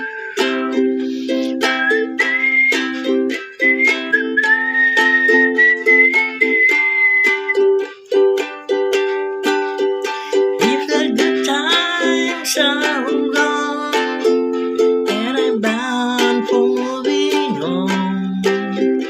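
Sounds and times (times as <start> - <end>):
ukulele strumming chords: 0.0 - 19.0.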